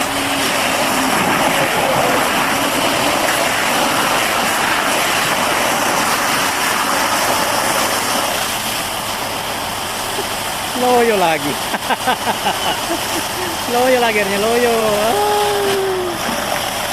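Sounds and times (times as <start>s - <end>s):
water jet spraying on metal: 0.0s - 16.9s.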